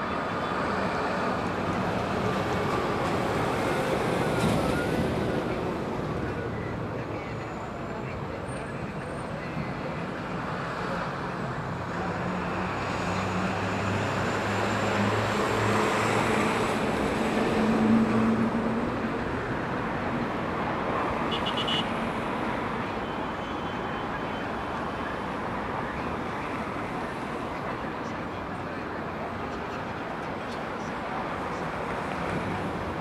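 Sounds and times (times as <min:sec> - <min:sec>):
road traffic noise: 0:00.0 - 0:33.0.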